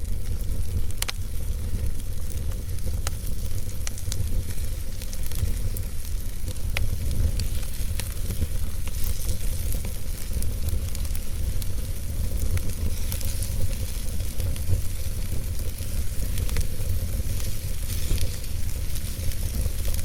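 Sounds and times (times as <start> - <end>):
fire crackling and popping: 0.0 - 20.0
flames rumbling and hissing: 0.0 - 20.0.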